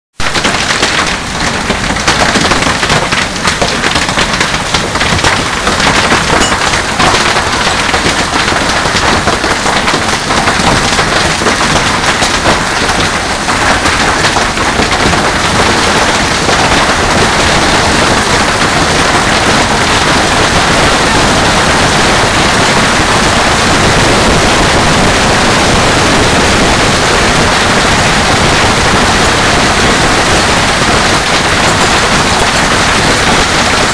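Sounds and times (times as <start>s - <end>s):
hailstones clattering on hard surfaces: 0.2s - 33.9s.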